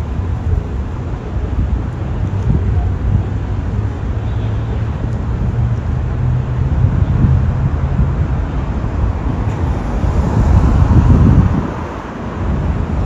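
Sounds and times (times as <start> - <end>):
car engines running: 0.0 - 13.0
low traffic hum: 0.0 - 13.0.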